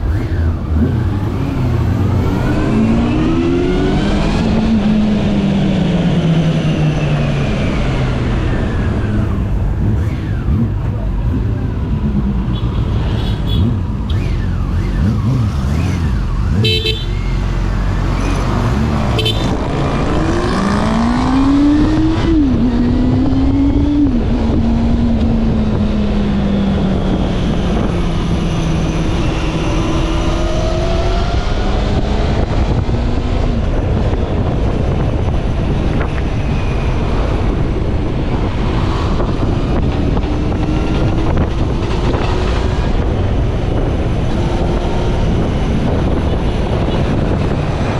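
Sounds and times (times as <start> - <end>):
motorcycle engine revving: 0.0 - 47.9
road and wind rush: 0.0 - 47.9.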